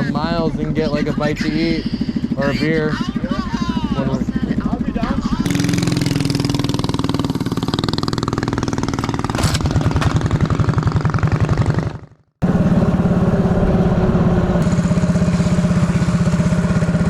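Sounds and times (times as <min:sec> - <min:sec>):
mini bike engines idling: 0:00.0 - 0:17.0.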